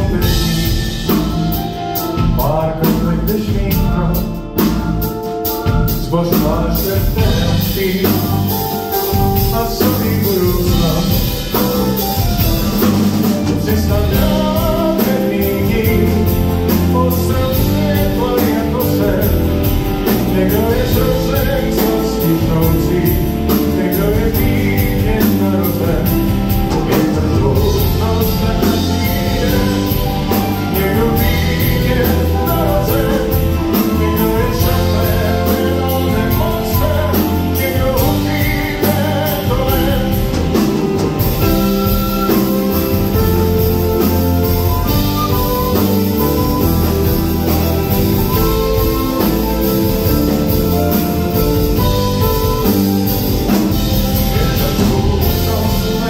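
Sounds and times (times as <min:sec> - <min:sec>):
flute melody: 0:00.0 - 0:56.0
live band playing: 0:00.0 - 0:56.0.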